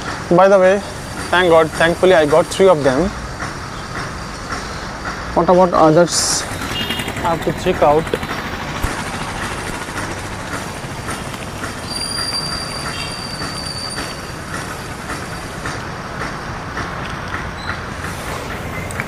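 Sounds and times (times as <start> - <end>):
vehicle noise with clatter: 0.0 - 19.0.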